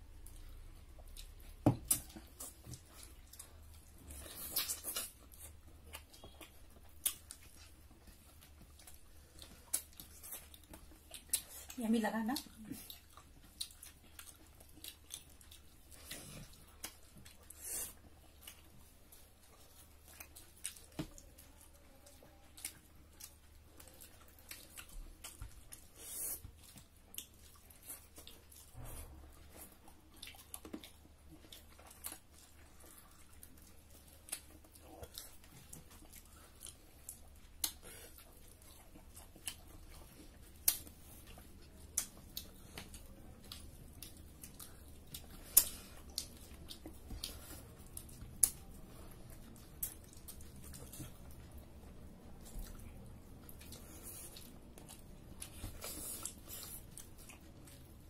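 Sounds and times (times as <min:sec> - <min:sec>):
wet chewing and lip smacks: 0:00.0 - 0:58.0.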